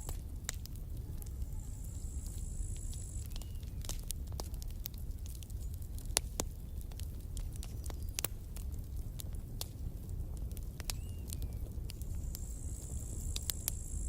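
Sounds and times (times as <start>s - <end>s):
fire low rumble: 0.0s - 14.0s
wood crackling and popping: 0.0s - 14.0s.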